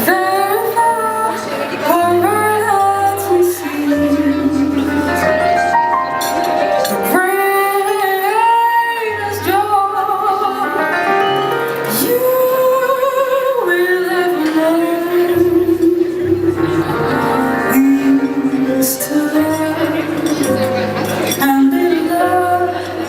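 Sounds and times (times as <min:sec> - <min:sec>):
woman singing jazz: 0:00.0 - 0:05.6, 0:06.8 - 0:11.2, 0:11.8 - 0:23.0
piano accompaniment: 0:00.0 - 0:23.0.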